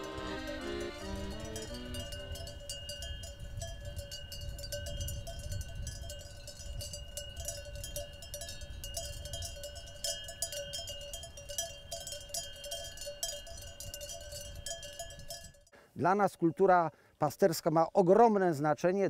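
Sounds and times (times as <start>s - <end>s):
sheep bells clanking: 0.0s - 18.8s.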